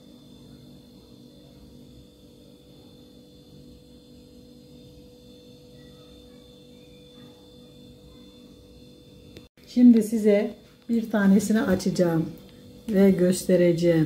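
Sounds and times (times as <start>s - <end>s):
faint high-pitched whine: 0.0s - 14.0s
steady hum: 0.0s - 14.0s.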